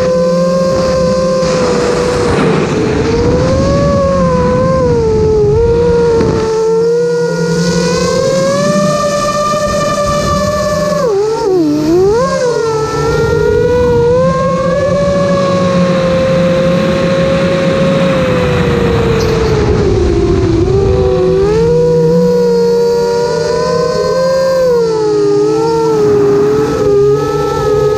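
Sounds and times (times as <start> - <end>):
drone motors whining: 0.0 - 27.9.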